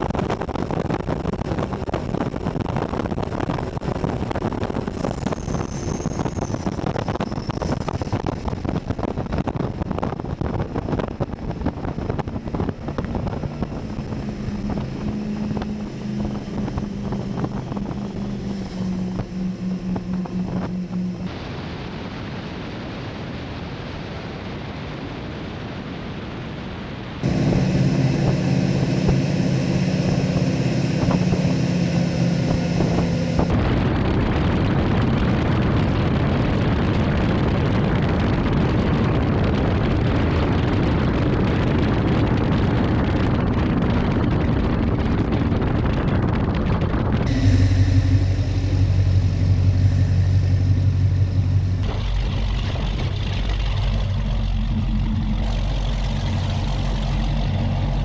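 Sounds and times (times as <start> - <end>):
powerboat engines droning: 0.0 - 23.0, 27.2 - 58.0
rushing wind and water: 0.0 - 58.0.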